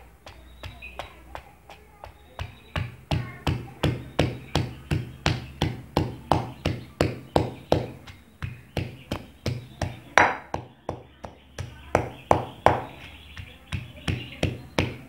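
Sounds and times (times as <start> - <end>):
wooden pestle pounding in mortar: 0.0 - 15.0.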